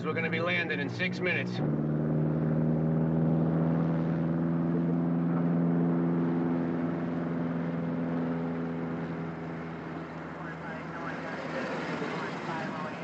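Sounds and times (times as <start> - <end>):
propeller aircraft engine drone: 0.0 - 13.0.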